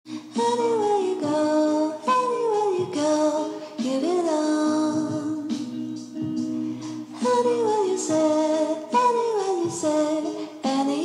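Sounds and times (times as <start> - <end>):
high sung melody: 0.1 - 11.0.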